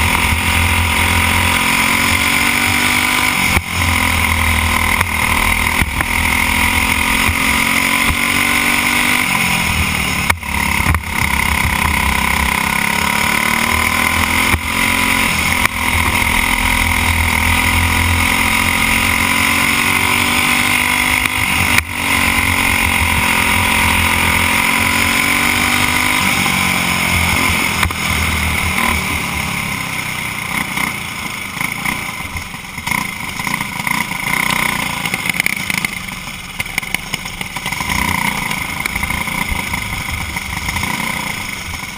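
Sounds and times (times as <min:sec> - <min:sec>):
kart engine running hard: 0:00.0 - 0:41.9.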